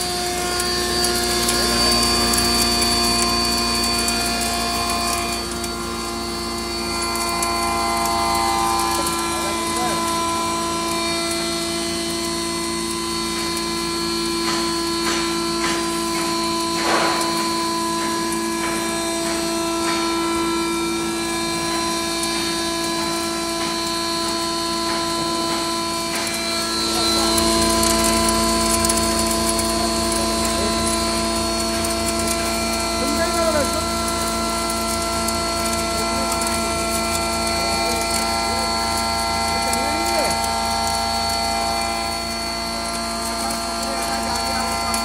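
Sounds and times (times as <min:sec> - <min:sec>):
grinder machine humming: 0:00.0 - 0:45.0.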